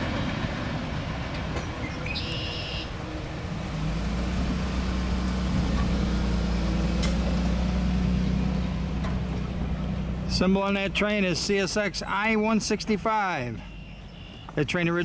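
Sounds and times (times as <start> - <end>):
low engine drone: 0.0 - 13.9
freight train rolling: 0.0 - 15.0.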